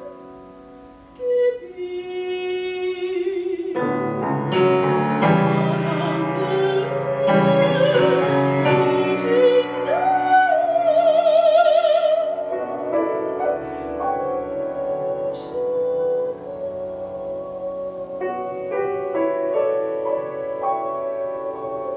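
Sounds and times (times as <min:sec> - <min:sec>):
piano accompaniment: 0:00.0 - 0:21.9
soprano singing: 0:00.0 - 0:21.9.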